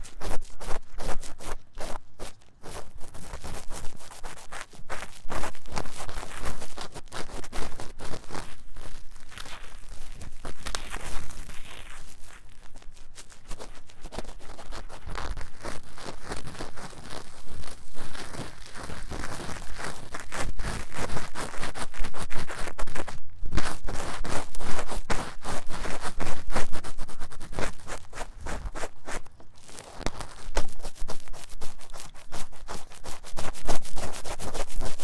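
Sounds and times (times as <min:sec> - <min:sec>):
close-up scratching and rubbing: 0:00.0 - 0:35.0.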